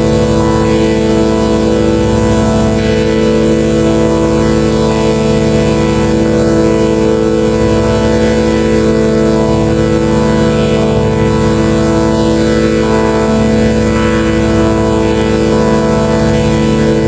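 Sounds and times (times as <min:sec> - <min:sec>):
fast low buzz: 0:00.0 - 0:17.0
loud droning tone: 0:00.0 - 0:17.0.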